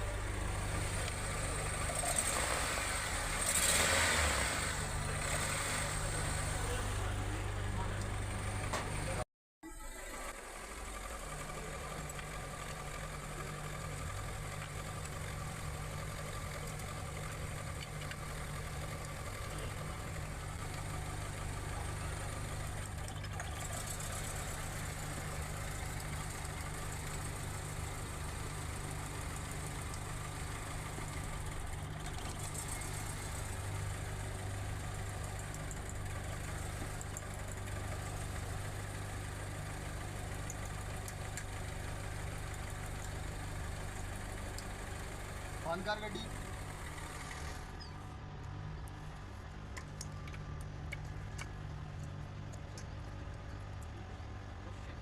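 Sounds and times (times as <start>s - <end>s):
car engine idling with misfire: 0.0s - 55.0s.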